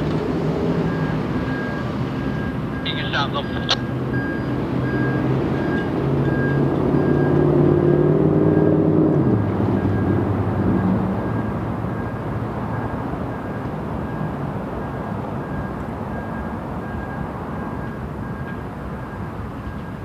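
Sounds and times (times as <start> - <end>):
diesel locomotives rumbling: 0.0 - 20.0.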